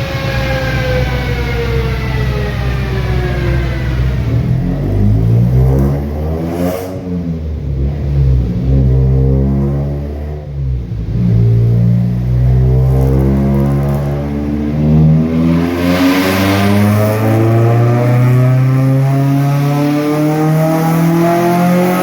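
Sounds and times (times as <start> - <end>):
car engine revving on a dyno: 0.0 - 22.0.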